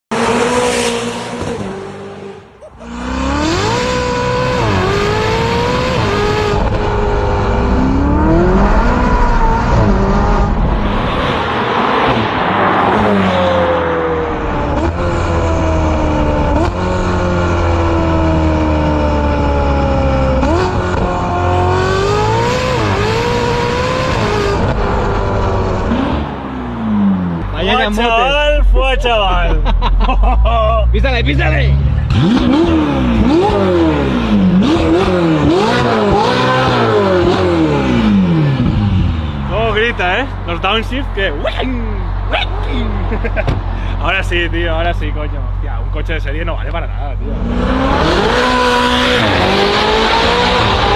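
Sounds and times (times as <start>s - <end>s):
sports car engine revving: 0.1s - 50.9s.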